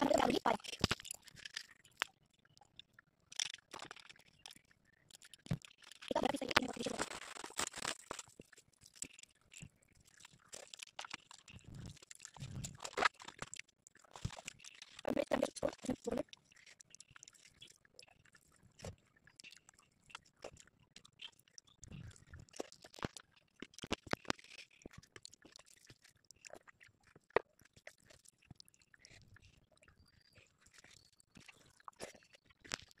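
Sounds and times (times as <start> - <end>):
chewing and mouth smacks: 0.0 - 33.0.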